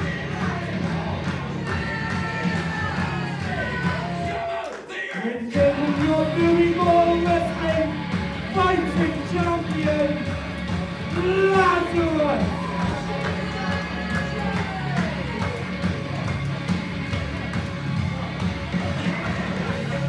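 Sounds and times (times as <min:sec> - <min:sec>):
music with singing voice: 0:00.0 - 0:20.0.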